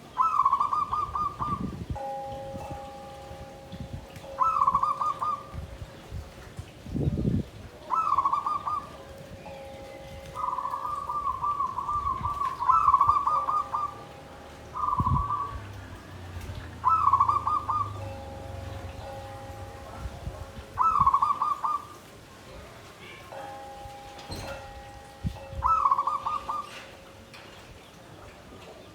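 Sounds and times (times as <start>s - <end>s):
doves cooing: 0.0s - 6.3s, 7.7s - 22.2s, 24.3s - 27.2s.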